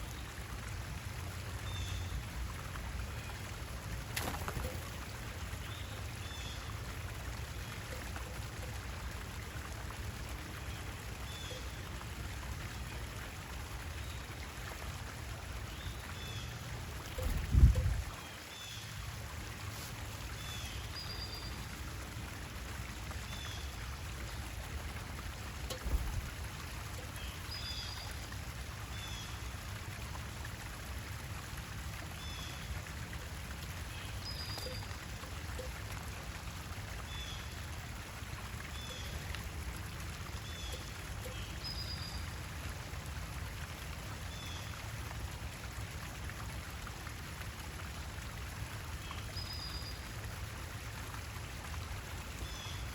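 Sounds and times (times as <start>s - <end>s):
water trickling: 0.0s - 52.9s.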